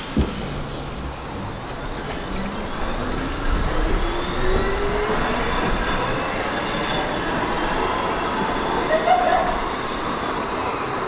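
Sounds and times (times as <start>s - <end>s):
train traction motors whining: 0.0s - 11.0s
wheels rumbling on rails: 0.0s - 11.0s.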